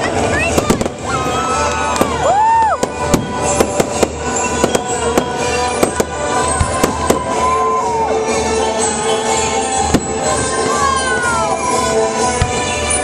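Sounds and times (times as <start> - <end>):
fireworks bursting bangs: 0.0 - 13.0
music with held notes: 0.0 - 13.0.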